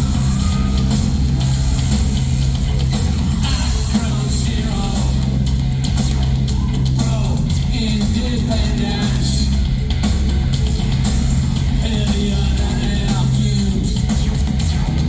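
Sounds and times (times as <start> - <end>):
vocals: 0.0 - 1.5, 2.7 - 15.0
electronic percussion: 0.0 - 15.0
heavy bass drone: 0.0 - 15.0
industrial music: 0.0 - 15.0.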